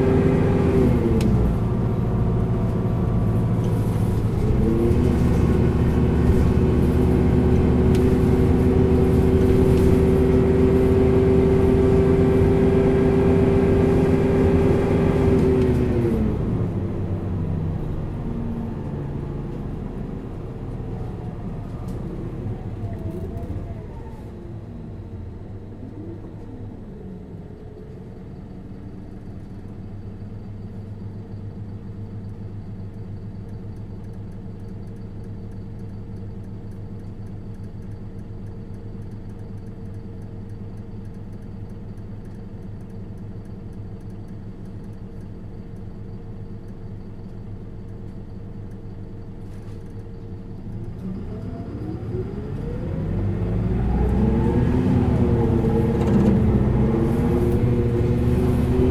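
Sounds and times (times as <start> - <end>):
bus diesel engine idling: 0.0 - 52.0.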